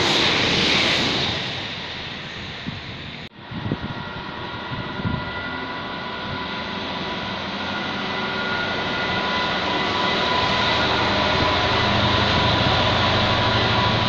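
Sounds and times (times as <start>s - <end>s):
diesel locomotive engine whine: 0.0s - 14.0s.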